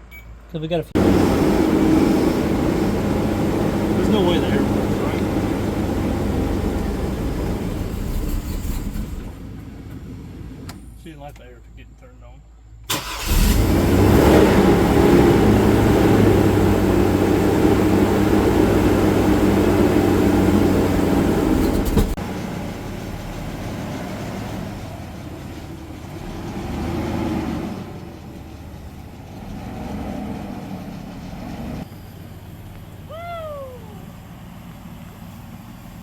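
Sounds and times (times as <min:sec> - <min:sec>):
car engine running: 0:00.1 - 0:11.2, 0:12.9 - 0:36.0.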